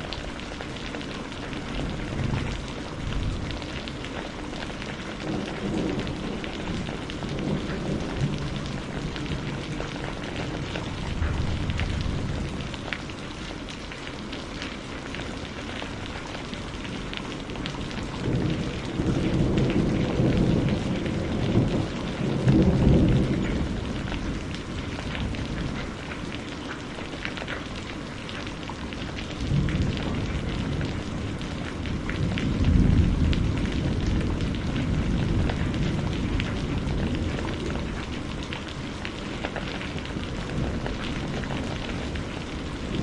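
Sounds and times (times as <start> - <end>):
rain pattering: 0.0 - 43.0
thunder rumbling: 1.1 - 13.3, 15.9 - 26.2, 28.8 - 43.0.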